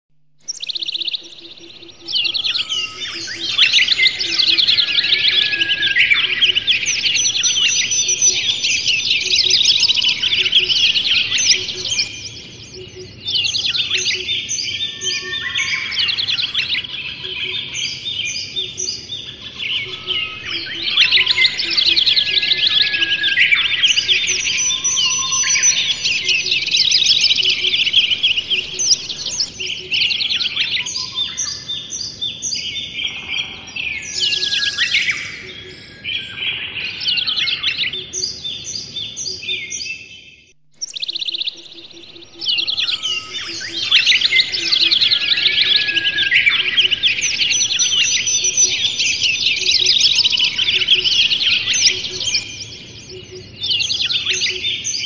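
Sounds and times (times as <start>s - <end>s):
birds chirping: 0.4s - 55.0s.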